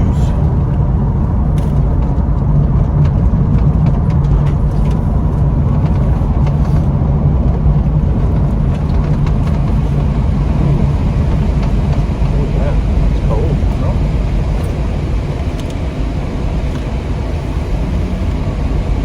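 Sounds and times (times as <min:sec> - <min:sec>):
low hum in car cabin: 0:00.0 - 0:19.0.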